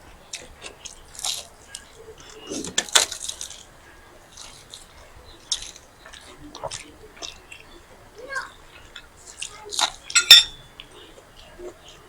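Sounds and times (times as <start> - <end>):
crunchy chewing crackles: 0.0 - 12.0.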